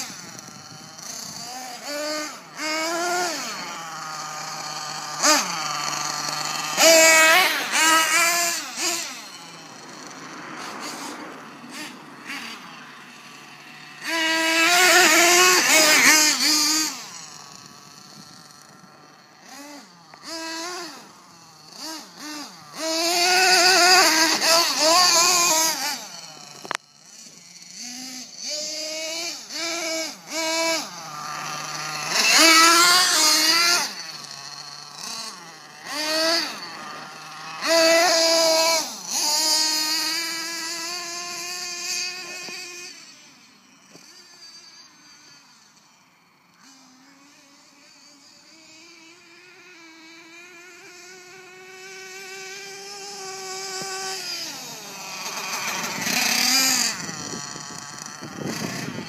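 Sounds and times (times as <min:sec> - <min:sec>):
small nitro engine revving: 0:00.0 - 0:59.0.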